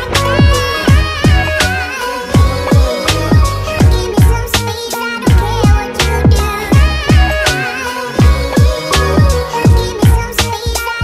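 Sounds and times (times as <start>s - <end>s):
electronic music with kick drums: 0.0s - 11.0s.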